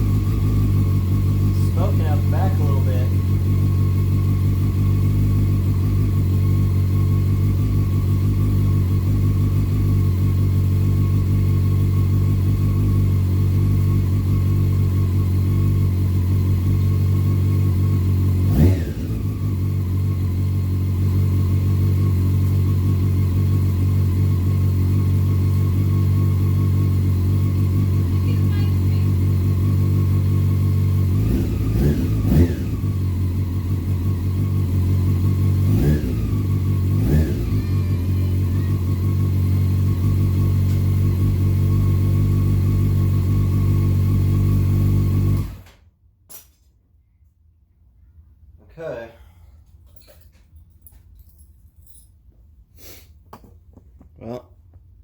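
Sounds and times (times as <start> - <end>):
motorcycle engine idling: 0.0 - 45.6.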